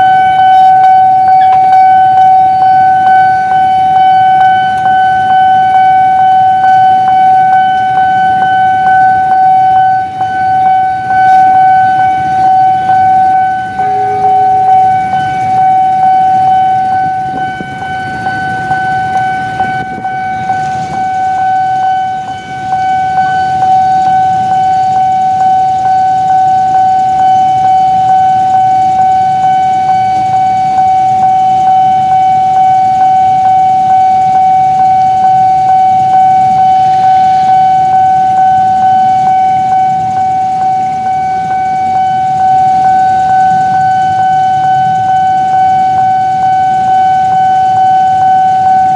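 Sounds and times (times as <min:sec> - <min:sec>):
level crossing alarm high tone: 0:00.0 - 0:48.9.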